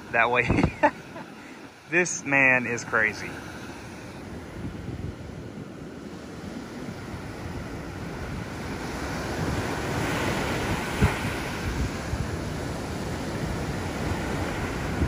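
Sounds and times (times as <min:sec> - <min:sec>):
ocean surf breaking on beach: 0:00.0 - 0:15.0
wind buffeting microphone: 0:00.0 - 0:15.0.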